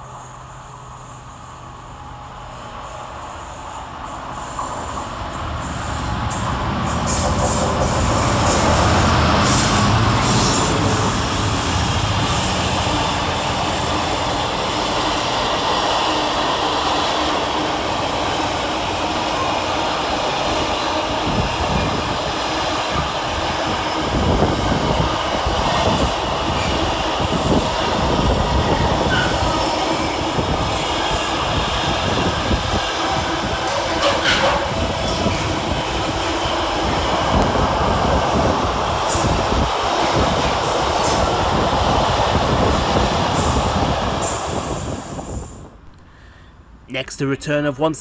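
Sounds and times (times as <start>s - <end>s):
freight train wheels rumbling: 0.0s - 46.3s.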